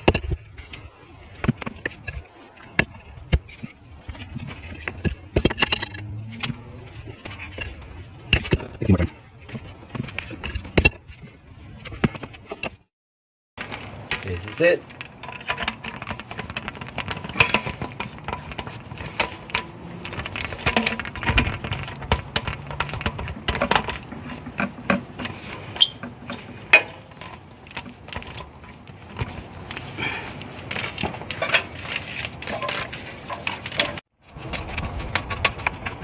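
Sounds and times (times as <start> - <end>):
hose fitting clicks and rubbing: 0.0 - 12.8, 13.6 - 36.0.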